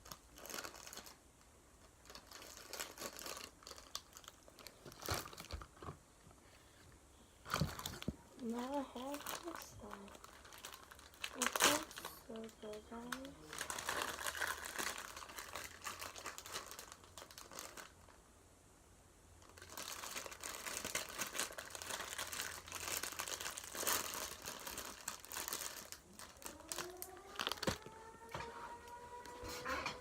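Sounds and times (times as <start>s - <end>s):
crunchy slime crackling and popping: 0.0s - 5.6s, 7.5s - 18.1s, 19.4s - 29.3s.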